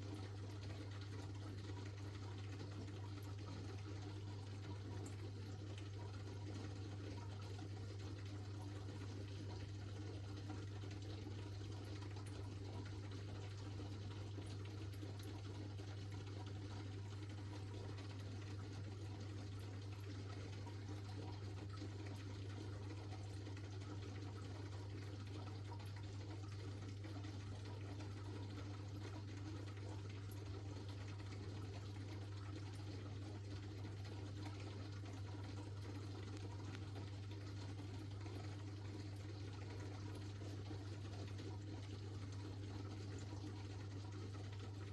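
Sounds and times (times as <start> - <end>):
aquarium filter humming: 0.0 - 44.9
water trickling and splashing: 0.0 - 44.9.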